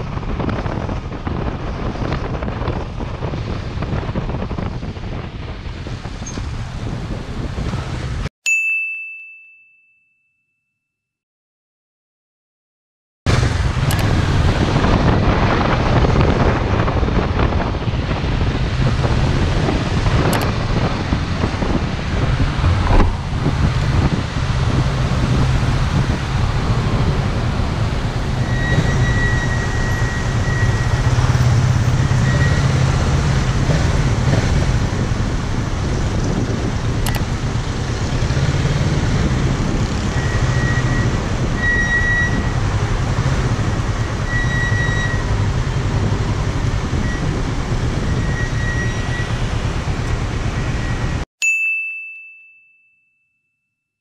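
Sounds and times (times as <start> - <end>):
surrounding car traffic: 0.0 - 8.3, 13.3 - 51.3.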